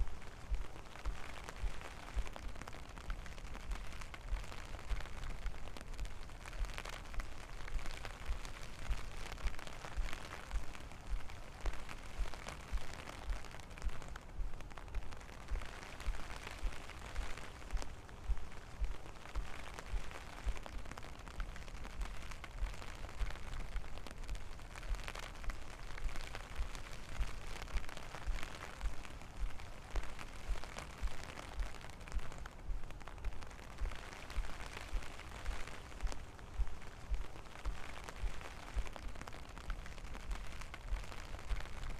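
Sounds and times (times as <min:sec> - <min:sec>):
footsteps in rain: 0:00.0 - 0:41.9
rain patter: 0:00.0 - 0:41.9.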